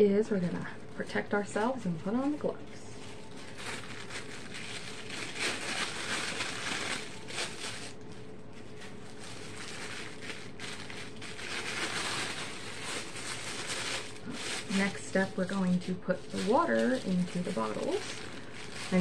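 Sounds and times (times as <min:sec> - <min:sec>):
disposable gloves rustling: 0:00.2 - 0:19.0.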